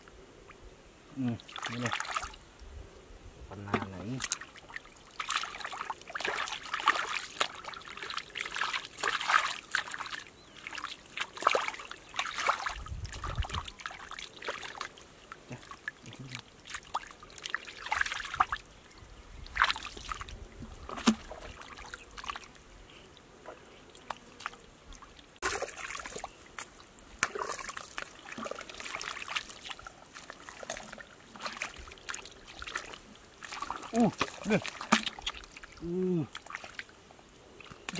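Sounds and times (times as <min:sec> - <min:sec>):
splashing in muddy water: 0:01.2 - 0:02.4, 0:03.5 - 0:18.8, 0:19.4 - 0:22.6, 0:23.4 - 0:37.0.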